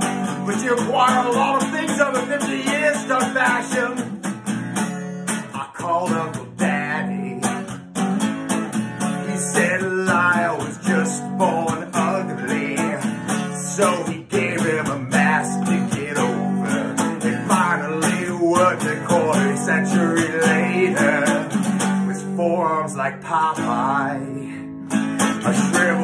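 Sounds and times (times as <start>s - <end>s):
man singing: 0.0s - 4.2s, 5.5s - 7.8s, 9.1s - 26.0s
strummed acoustic guitar: 0.0s - 26.0s.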